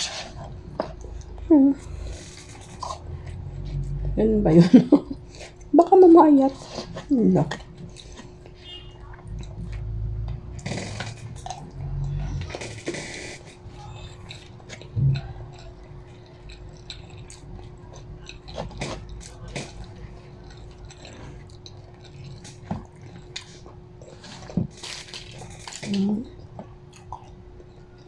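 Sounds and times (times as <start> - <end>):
person chewing: 0.0 - 4.2, 4.9 - 5.7, 6.6 - 28.0.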